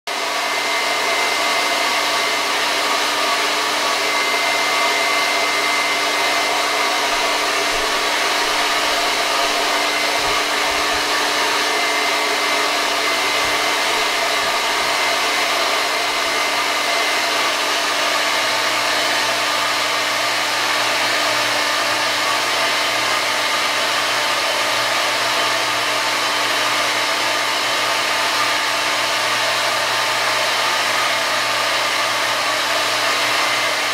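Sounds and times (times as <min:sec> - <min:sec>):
hair dryer running: 0:00.1 - 0:33.9.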